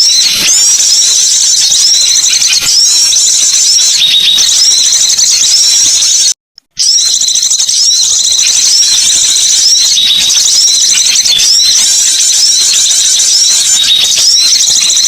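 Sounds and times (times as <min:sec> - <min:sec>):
songbird chirps and chattering: 0:00.0 - 0:06.1, 0:06.9 - 0:15.0.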